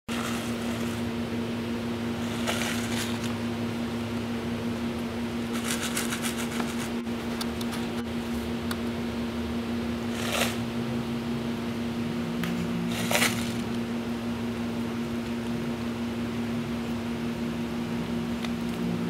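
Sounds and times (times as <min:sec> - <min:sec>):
mechanical hum with hiss: 0:00.1 - 0:19.0.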